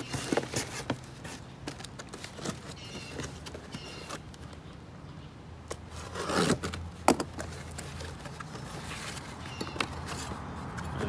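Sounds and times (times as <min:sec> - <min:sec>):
cardboard flaps scraping: 0:00.0 - 0:04.3, 0:05.8 - 0:11.0.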